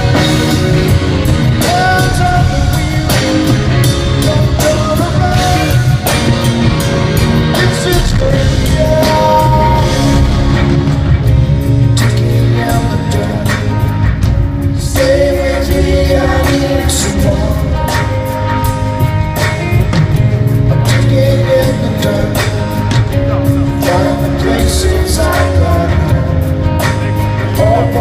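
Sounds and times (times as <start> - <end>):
bass line: 0.0 - 28.0
drum kit beat: 0.0 - 28.0
electric guitar: 0.0 - 28.0.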